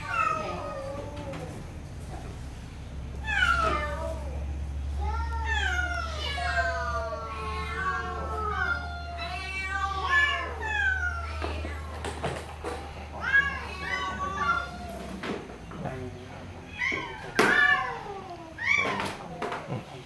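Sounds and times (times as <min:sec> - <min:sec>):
cats meowing: 0:00.0 - 0:02.3, 0:03.1 - 0:15.6, 0:16.6 - 0:19.4.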